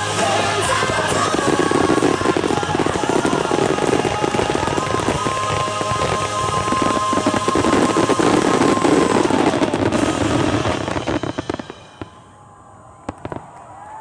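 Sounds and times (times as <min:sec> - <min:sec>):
fireworks crackling: 0:00.0 - 0:12.3, 0:13.1 - 0:13.6.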